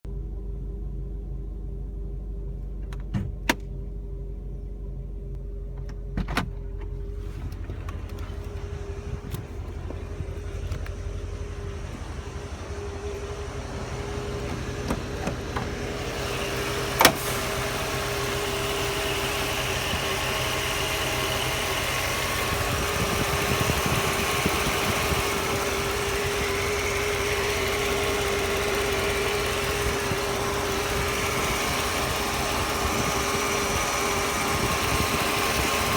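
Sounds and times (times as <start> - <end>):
car engine rumbling: 0.0 - 35.9
constant whine: 0.1 - 35.9.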